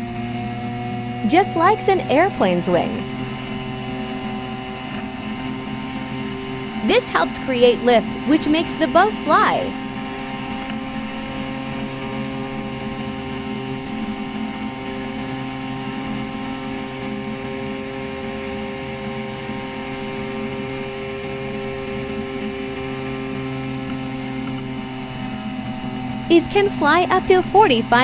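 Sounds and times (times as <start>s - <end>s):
engine and propeller drone: 0.0s - 28.0s.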